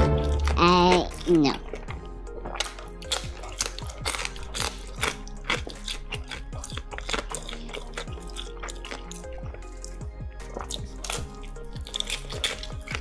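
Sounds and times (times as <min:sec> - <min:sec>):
man chewing and smacking: 0:00.0 - 0:13.0
soft background music: 0:00.0 - 0:13.0.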